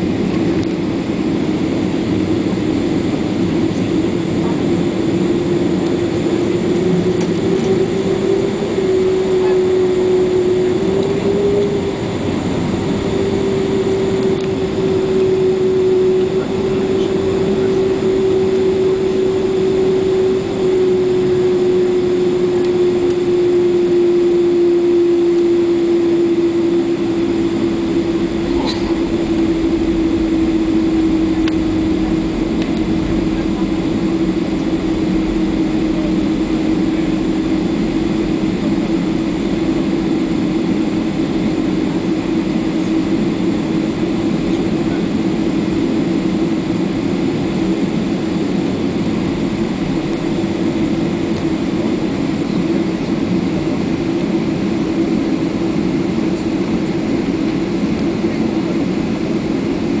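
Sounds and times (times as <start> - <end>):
jet engines droning: 0.0 - 60.0.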